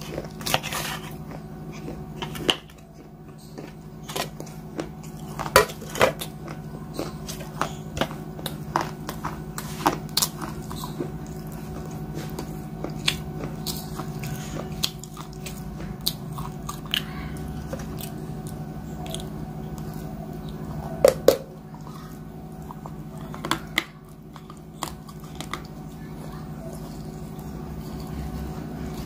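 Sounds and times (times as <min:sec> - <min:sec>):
chewing clay crunching: 0:00.0 - 0:29.0
steady low hum: 0:00.0 - 0:29.0.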